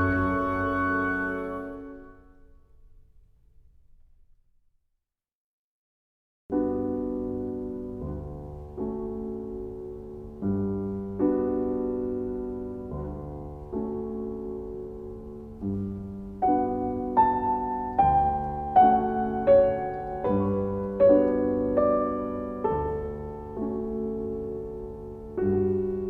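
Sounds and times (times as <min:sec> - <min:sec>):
slow piano chords: 0:00.0 - 0:03.2, 0:06.5 - 0:26.0.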